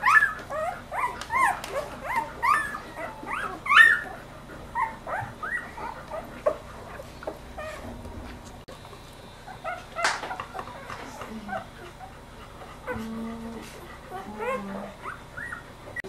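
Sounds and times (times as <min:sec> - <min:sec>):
puppies squeaking and whimpering: 0:00.0 - 0:08.0, 0:09.4 - 0:16.0.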